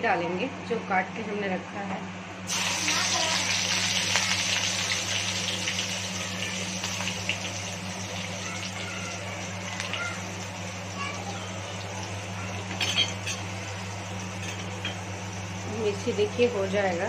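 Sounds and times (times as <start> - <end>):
food sizzling in hot oil: 2.5 - 17.0.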